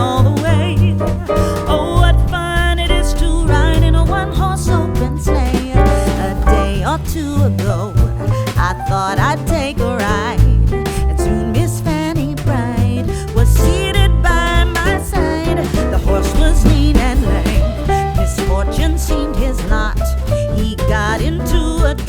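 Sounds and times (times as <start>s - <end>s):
upbeat song with singing: 0.0s - 22.0s.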